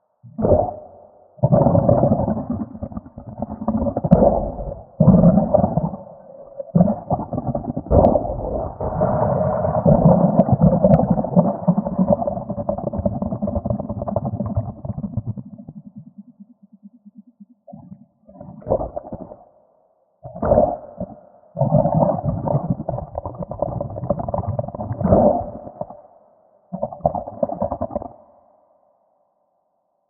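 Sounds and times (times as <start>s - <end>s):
stomach growling: 0.3s - 19.4s, 20.2s - 26.0s, 26.7s - 28.2s.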